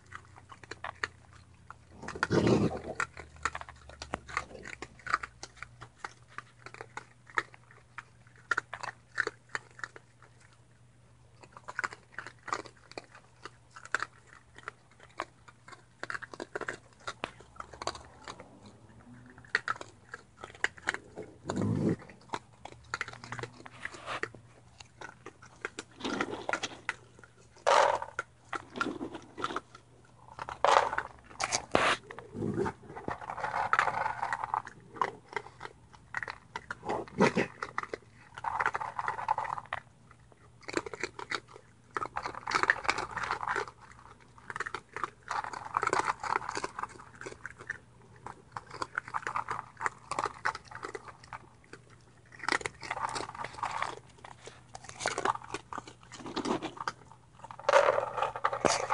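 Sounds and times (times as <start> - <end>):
animals crunching kibble: 0.0 - 58.9
wet chewing: 0.0 - 58.9.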